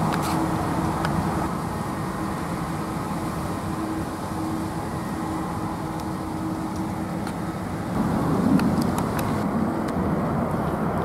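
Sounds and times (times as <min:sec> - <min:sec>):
jet airliner rumble: 0:00.0 - 0:11.0.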